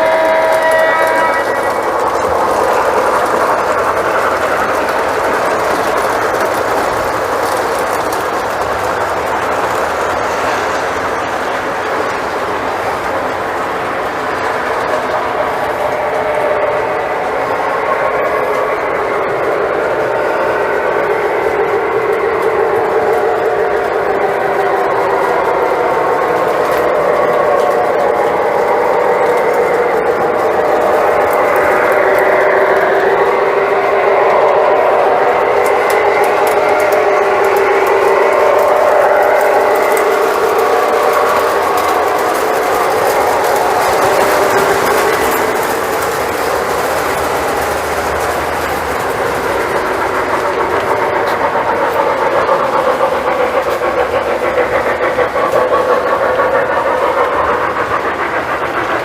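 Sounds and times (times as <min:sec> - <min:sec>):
faint clickety-clack: 0:00.0 - 0:59.0
model train whirring on rails: 0:00.0 - 0:59.0.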